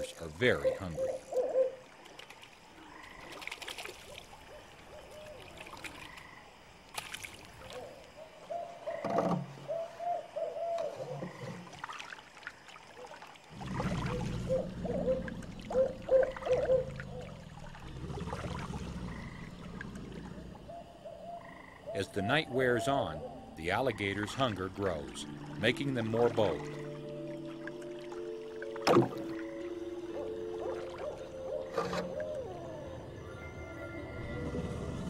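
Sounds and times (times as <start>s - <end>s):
frogs croaking: 0.0s - 35.0s.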